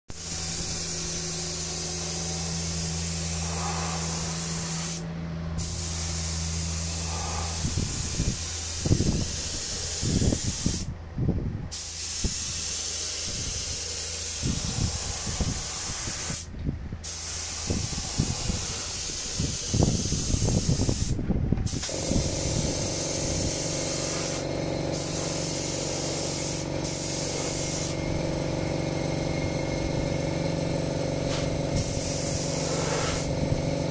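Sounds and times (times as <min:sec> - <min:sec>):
paint spray gun hissing: 0:00.1 - 0:10.9, 0:11.7 - 0:33.9.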